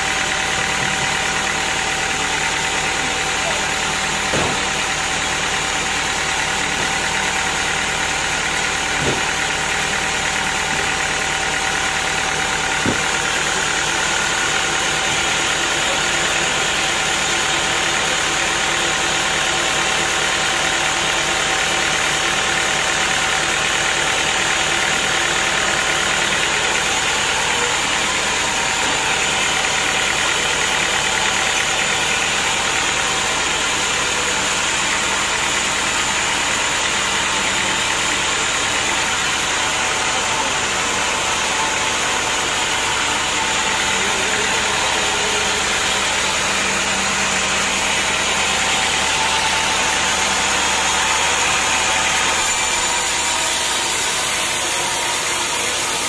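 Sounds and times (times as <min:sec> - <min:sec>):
band saw idling: 0:00.0 - 0:56.0.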